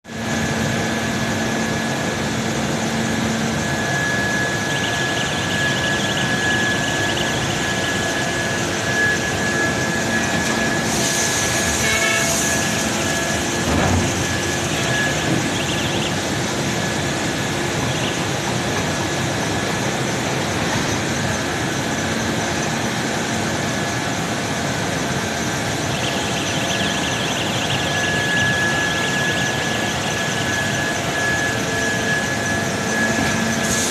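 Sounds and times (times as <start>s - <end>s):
machine running with high whine: 0.1s - 33.9s.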